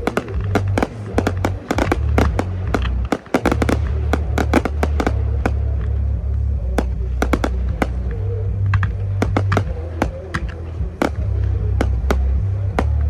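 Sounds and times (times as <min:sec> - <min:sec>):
fireworks bangs: 0:00.0 - 0:13.0
music with heavy bass: 0:00.0 - 0:13.0.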